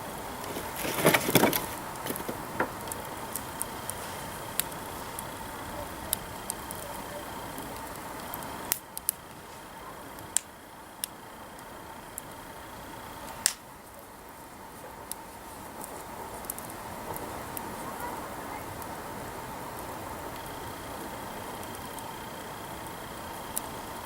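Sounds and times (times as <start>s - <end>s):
faint steady hiss: 0.0s - 24.0s
wood fire crackling and popping: 0.0s - 24.0s.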